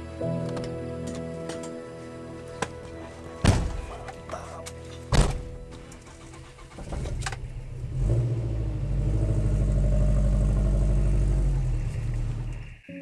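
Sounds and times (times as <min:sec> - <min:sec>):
car engine starting: 0:00.3 - 0:12.8.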